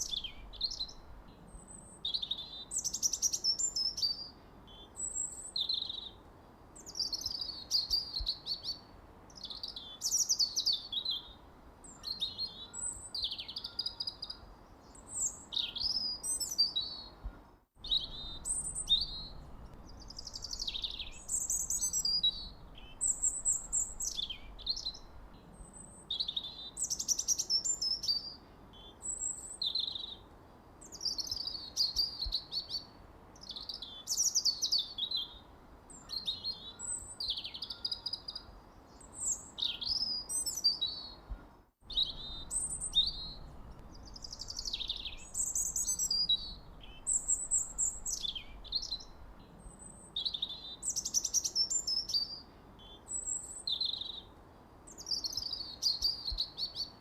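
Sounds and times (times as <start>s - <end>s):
songbirds chirping and singing: 6.8s - 41.3s, 41.9s - 57.0s.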